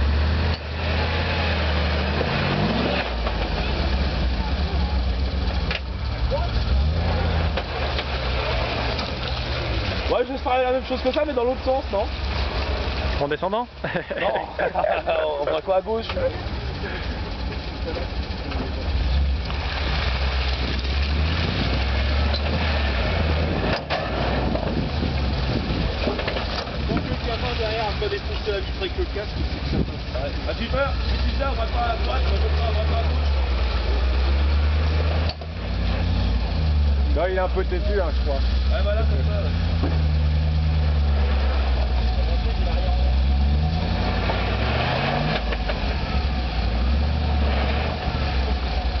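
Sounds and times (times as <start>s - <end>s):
vehicle engine at low revs: 0.0s - 49.0s.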